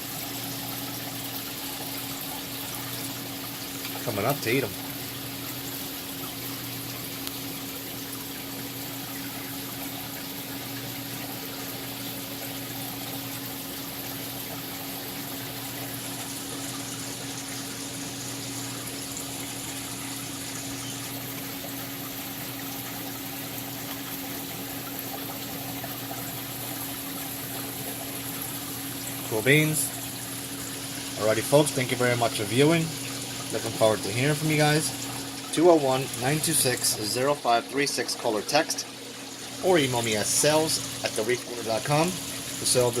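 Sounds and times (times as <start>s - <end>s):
circulating water rushing: 0.0s - 43.0s
pump motors humming: 0.0s - 43.0s.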